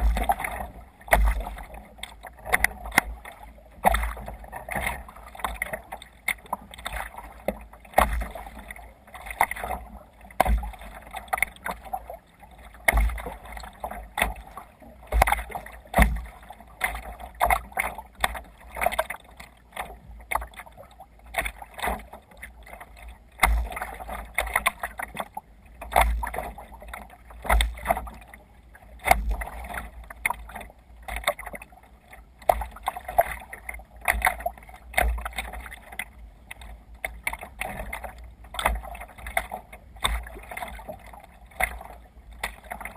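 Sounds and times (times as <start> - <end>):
water splashing against kayak hull: 0.0 - 42.9.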